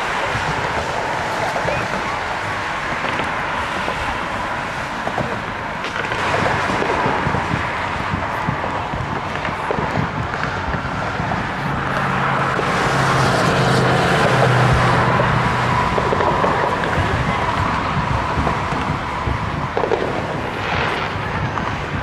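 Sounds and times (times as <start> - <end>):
engine passing by: 0.0 - 22.0
outdoor background noise: 0.0 - 22.0.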